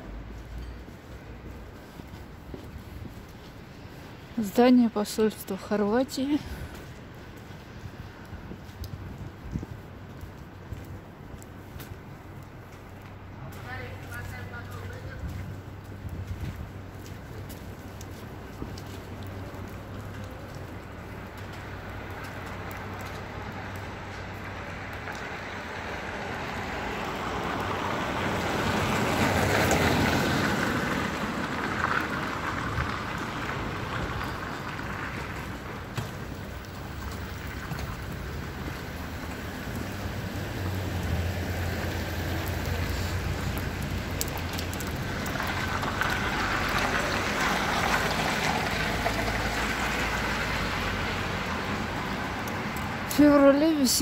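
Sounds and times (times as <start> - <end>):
water dripping onto pavement: 0.0 - 54.0
tyres hissing on wet road: 0.1 - 8.8, 10.0 - 54.0.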